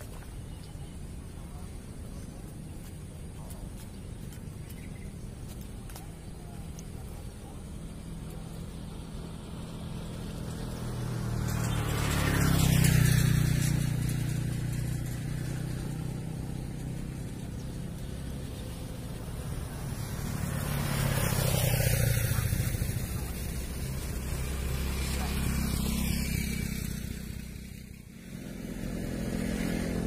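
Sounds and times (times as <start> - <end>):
vehicles driving past: 0.0 - 30.0.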